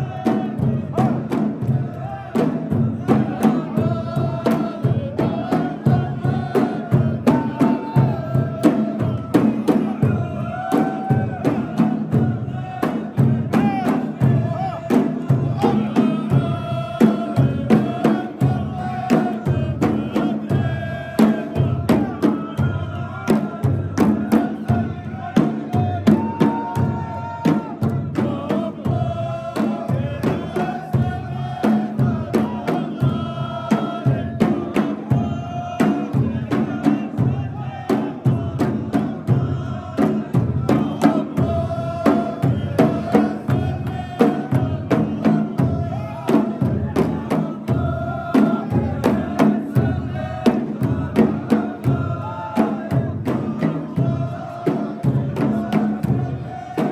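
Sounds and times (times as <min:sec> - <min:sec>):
chanted singing: 0:00.0 - 0:56.9
steady drum beat: 0:00.0 - 0:56.9.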